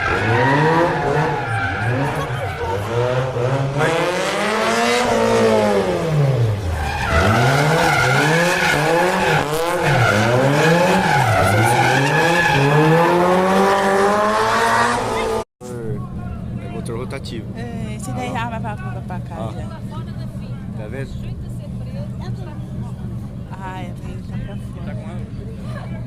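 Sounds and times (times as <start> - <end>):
car engine revving: 0.0 - 25.5.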